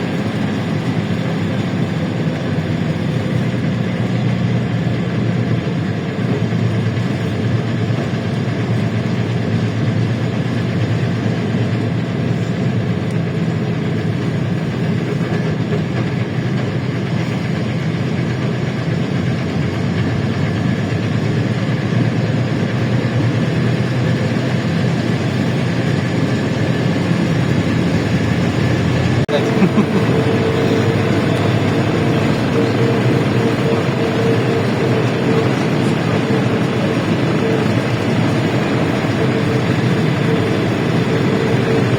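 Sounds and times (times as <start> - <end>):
bus engine drone: 0.0 - 41.9
road and body noise: 0.0 - 41.9.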